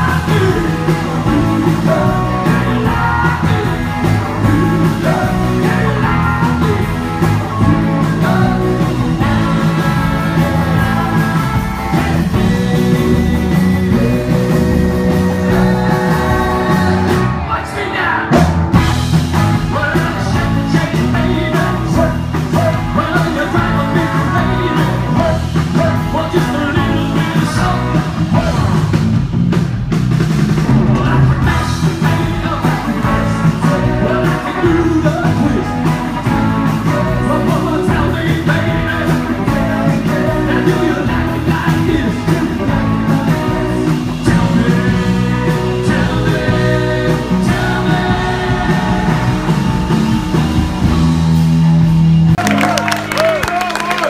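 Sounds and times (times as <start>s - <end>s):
person singing: 0.0s - 18.5s, 19.5s - 28.8s, 30.9s - 49.9s
drums: 0.0s - 54.0s
electric guitar: 0.0s - 54.0s
rock band playing live: 0.0s - 54.0s.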